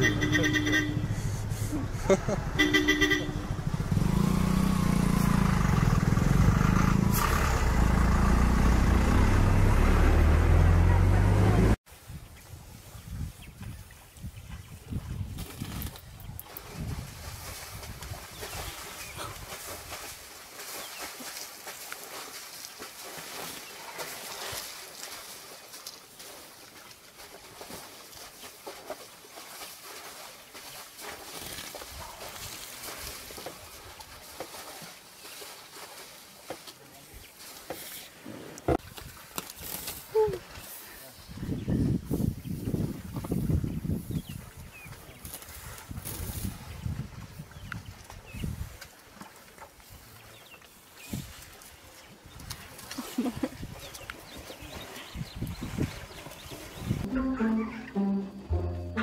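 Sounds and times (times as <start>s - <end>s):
splashing in muddy water: 0.0s - 57.6s.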